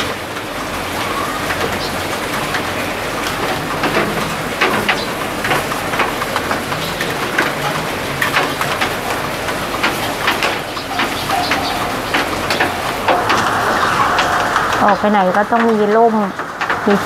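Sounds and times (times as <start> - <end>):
steady rain: 0.0 - 17.0
drips tapping on surfaces: 1.5 - 15.9.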